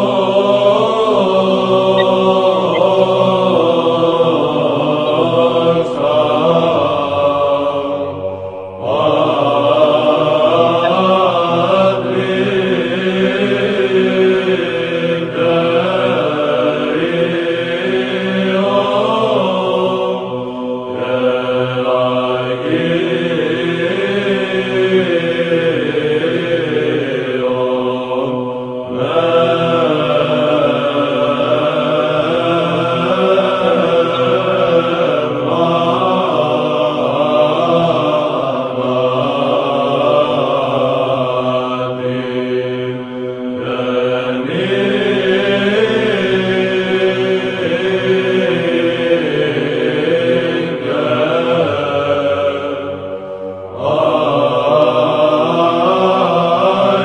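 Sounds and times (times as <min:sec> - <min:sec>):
held vocal drone: 0:00.0 - 0:57.0
voices chanting a slow melody: 0:00.0 - 0:57.0.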